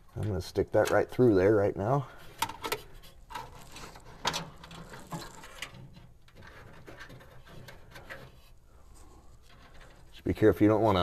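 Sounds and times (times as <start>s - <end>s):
wires scraping against metal: 2.2s - 11.0s.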